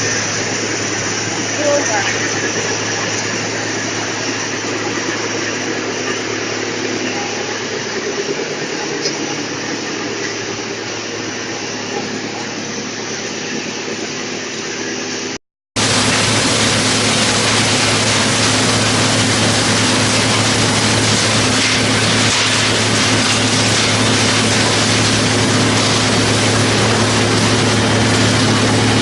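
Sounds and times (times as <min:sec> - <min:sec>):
wood chipper running: 0:00.0 - 0:29.0.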